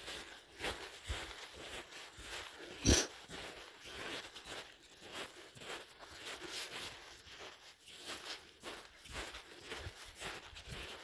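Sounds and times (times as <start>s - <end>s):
footsteps on snow: 0.0s - 11.0s.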